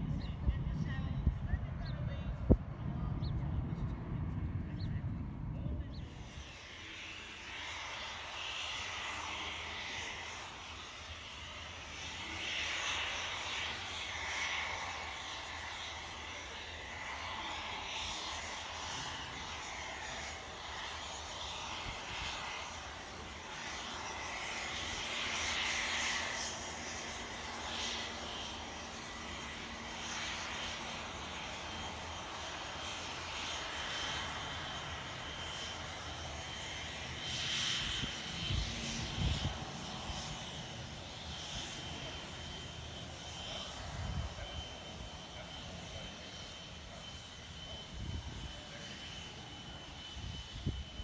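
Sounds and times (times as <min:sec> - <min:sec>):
jet engines taxiing: 0:00.0 - 0:51.0.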